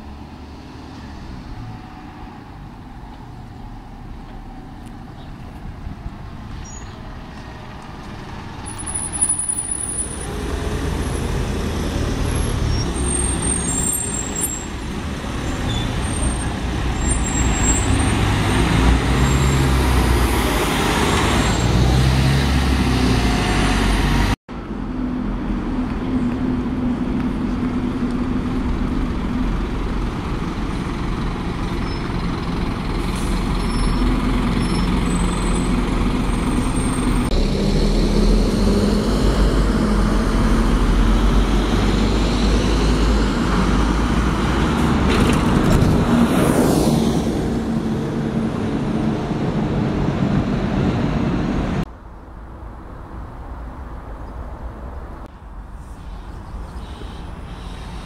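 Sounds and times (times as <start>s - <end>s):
bus engine humming: 0.0s - 53.6s
road traffic passing: 0.0s - 58.0s.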